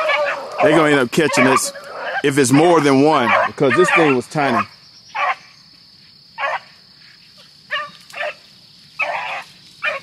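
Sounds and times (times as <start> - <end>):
dogs barking: 0.0 - 5.5, 6.4 - 6.8, 7.7 - 10.0.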